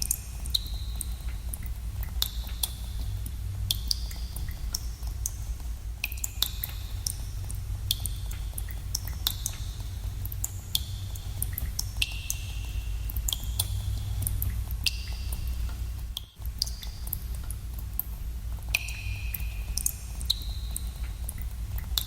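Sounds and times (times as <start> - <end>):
steady low rumble: 0.0 - 22.0
water drops plinking in cave: 0.0 - 22.0.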